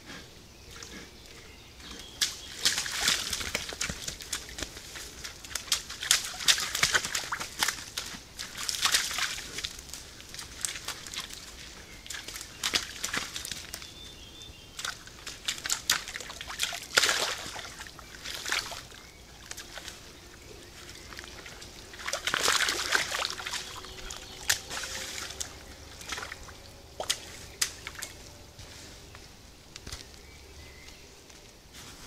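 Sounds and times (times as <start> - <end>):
mud sloshing and splashing: 1.8 - 28.9.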